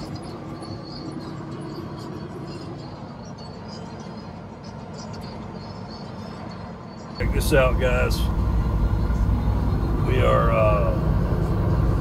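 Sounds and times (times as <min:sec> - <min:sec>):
diesel truck engine drone: 0:00.0 - 0:12.0
road noise: 0:00.0 - 0:12.0.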